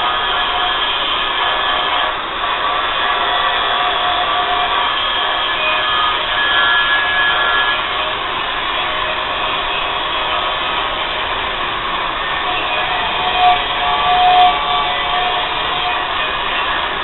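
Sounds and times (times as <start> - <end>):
grinder grinding metal: 0.0 - 17.0.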